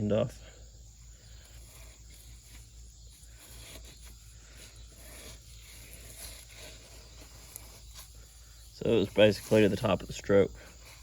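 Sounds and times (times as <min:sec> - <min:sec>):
high insect chirring: 0:00.0 - 0:11.0
rubbing and scraping metal: 0:01.3 - 0:11.0.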